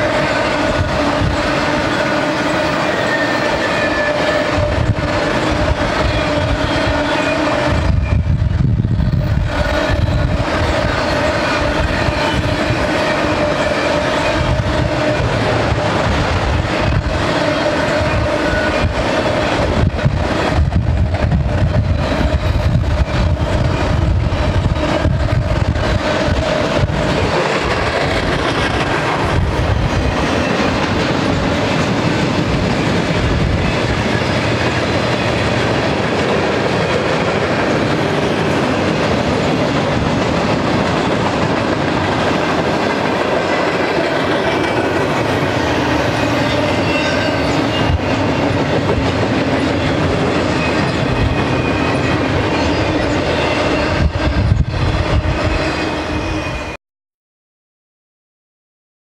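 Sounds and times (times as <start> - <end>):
steel train wheels on rails: 0.0 - 56.8.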